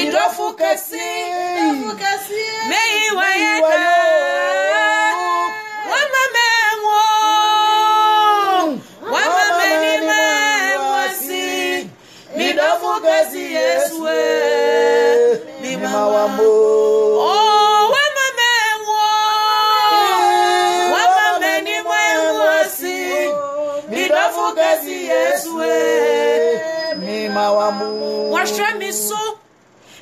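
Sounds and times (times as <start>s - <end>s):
women singing gospel song: 0.0s - 29.4s.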